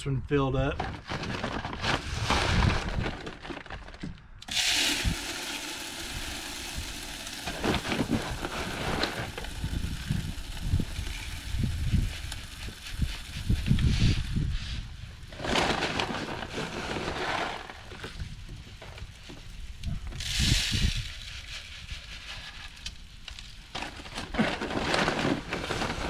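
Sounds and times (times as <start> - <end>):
seed pouring rattling hiss: 4.4 - 26.0.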